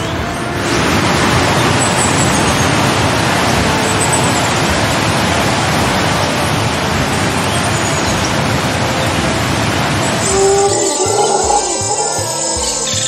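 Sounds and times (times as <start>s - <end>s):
loud steady rushing noise: 0.0s - 13.0s.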